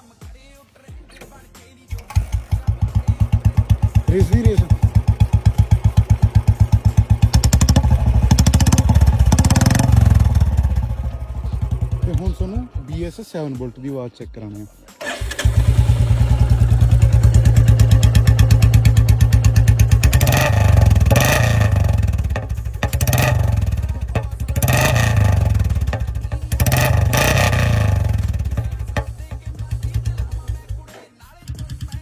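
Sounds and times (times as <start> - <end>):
motorcycle engine idling and revving: 1.9 - 13.6, 15.0 - 32.0.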